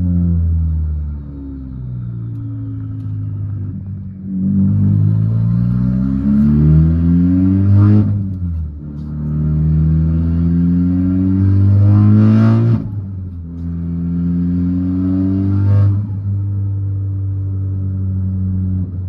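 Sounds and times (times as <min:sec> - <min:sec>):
car engine revving through gears: 0:02.2 - 0:19.0.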